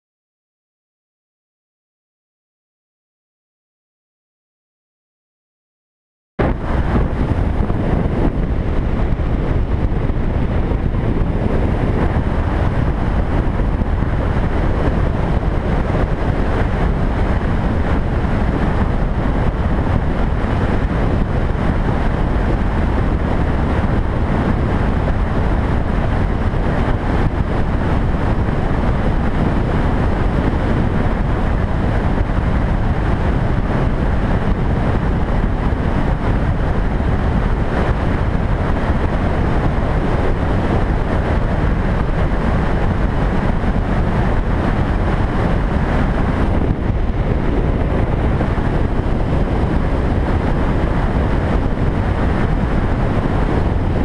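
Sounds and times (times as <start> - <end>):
motorcycle engine and road noise: 6.4 - 54.0
wind rush over microphone: 6.4 - 54.0.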